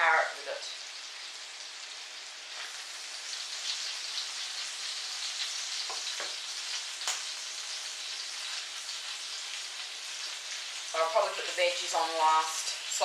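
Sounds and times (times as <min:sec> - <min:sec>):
sausages sizzling in a frying pan: 0:00.0 - 0:13.0.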